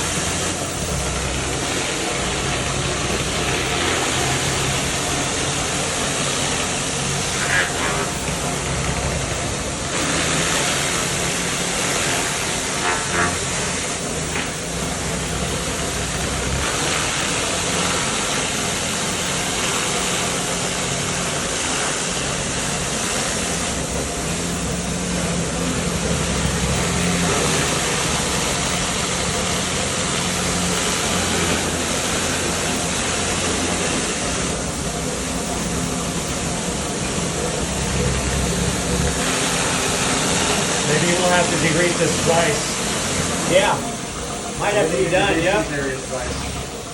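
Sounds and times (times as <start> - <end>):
pressure washer hum: 0.0 - 46.9
water jet hissing on concrete: 0.0 - 46.9.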